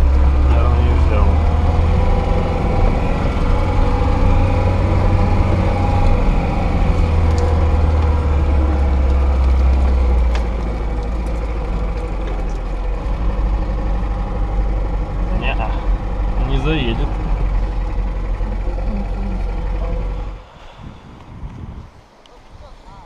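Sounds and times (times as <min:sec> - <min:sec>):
car engine drone inside cabin: 0:00.0 - 0:21.1.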